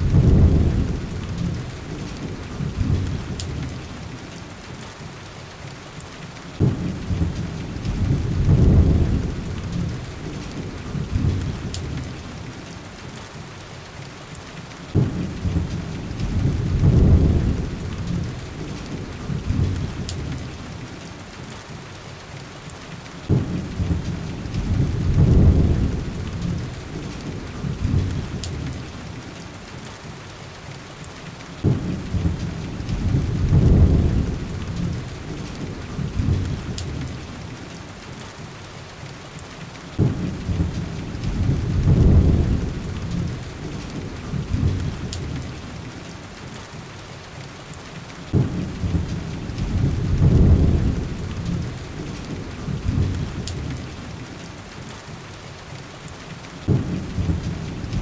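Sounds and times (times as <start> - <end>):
heavy rain on window glass: 0.0 - 58.0.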